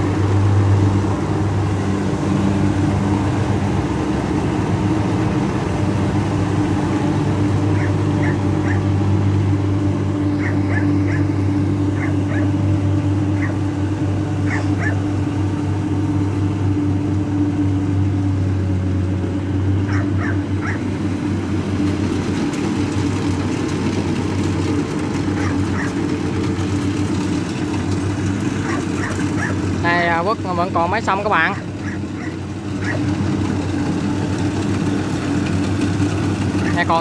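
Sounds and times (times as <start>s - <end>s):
combine harvester droning: 0.0s - 37.0s.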